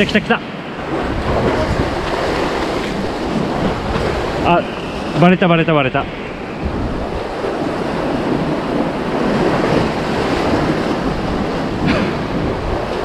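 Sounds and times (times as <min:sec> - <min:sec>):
sea surf washing among blocks: 0:00.0 - 0:13.0
wind buffeting microphone: 0:00.0 - 0:13.0.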